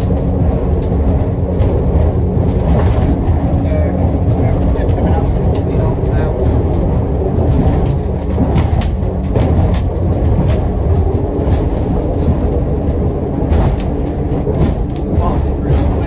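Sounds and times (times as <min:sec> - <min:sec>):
outboard engines rumbling: 0:00.0 - 0:16.0.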